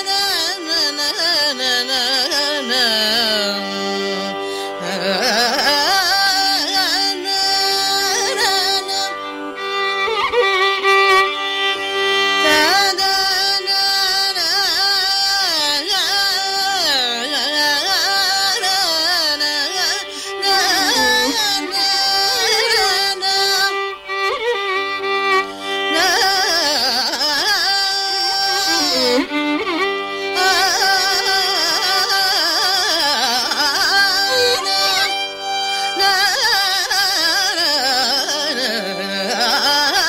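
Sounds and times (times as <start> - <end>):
woman singing: 0.0 - 9.2, 12.4 - 24.4, 25.7 - 29.7, 30.3 - 40.0
violin accompaniment: 0.0 - 40.0.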